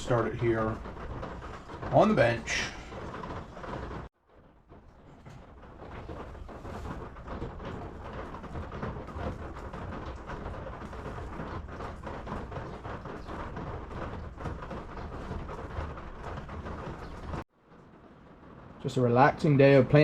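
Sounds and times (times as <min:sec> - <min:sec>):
rain on a tin roof: 0:00.0 - 0:20.0.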